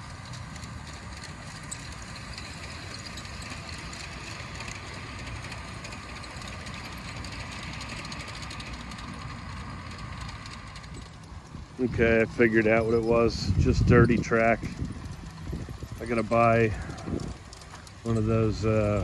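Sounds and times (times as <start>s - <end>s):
model train motor hum: 0.0s - 19.0s
wheels clicking on rails: 0.0s - 19.0s.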